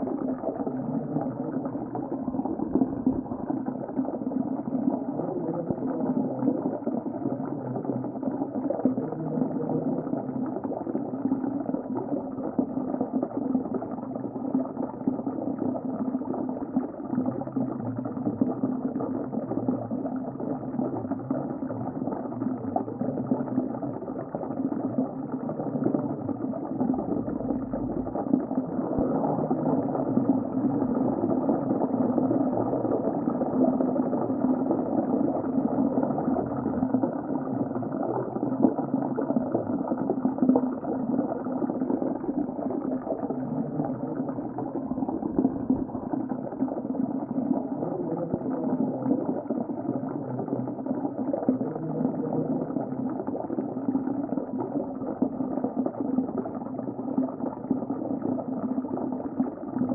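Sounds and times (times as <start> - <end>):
underwater bubbling and rushing water: 0.0 - 59.9.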